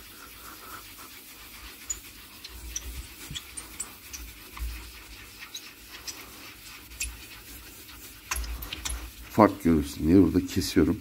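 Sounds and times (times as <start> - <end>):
sponge scrubbing glass: 0.0 - 11.0.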